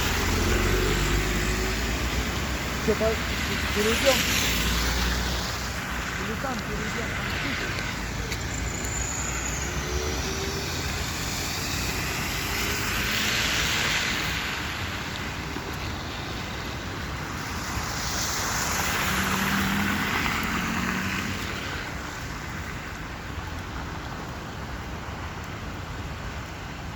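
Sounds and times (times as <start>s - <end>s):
heavy rain: 0.0s - 26.9s
wind: 0.0s - 26.9s.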